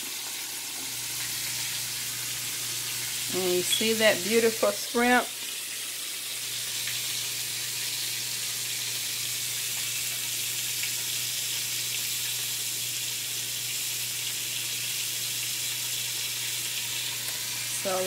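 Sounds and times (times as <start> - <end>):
shrimp sizzling in a skillet: 0.0 - 18.0.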